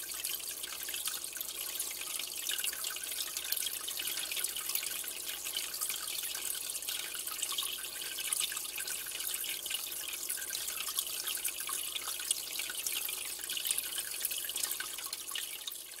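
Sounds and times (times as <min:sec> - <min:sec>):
aquarium water trickling and bubbling: 0:00.0 - 0:16.0.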